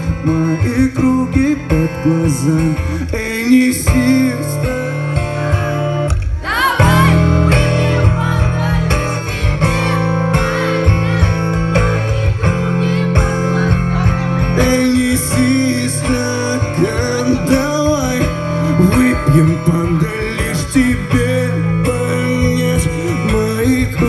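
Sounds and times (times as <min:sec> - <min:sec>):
guitar melody: 0:00.0 - 0:24.0
heavy bass line: 0:00.0 - 0:24.0
live band music: 0:00.0 - 0:24.0.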